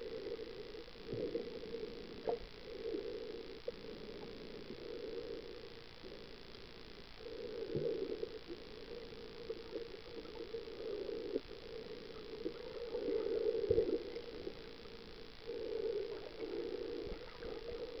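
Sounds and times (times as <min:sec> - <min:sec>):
muffled underwater hum: 0:00.0 - 0:18.0.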